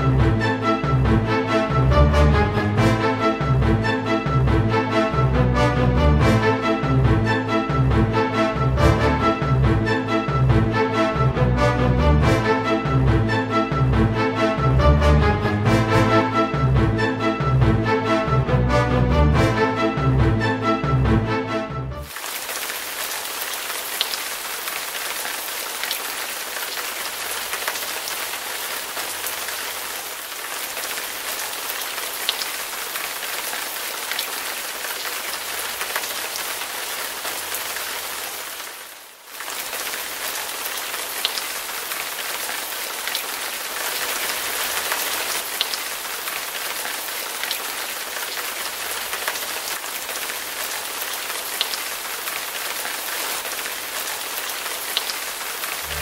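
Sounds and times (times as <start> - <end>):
heavy rain pouring: 0.0 - 19.8, 22.0 - 56.0.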